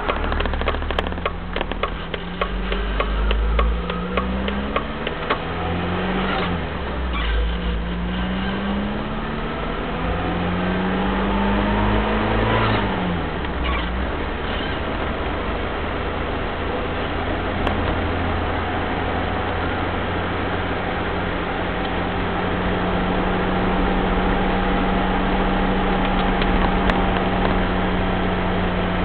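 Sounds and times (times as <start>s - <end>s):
diesel engine while driving: 0.0s - 29.0s.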